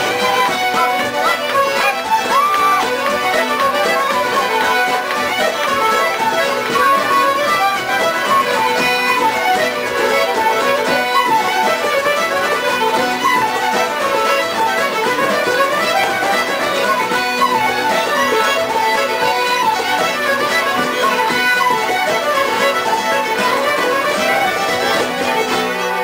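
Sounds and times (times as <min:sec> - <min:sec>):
fiddle: 0:00.0 - 0:26.0
strummed guitar: 0:00.0 - 0:26.0
wooden flute: 0:00.0 - 0:26.0.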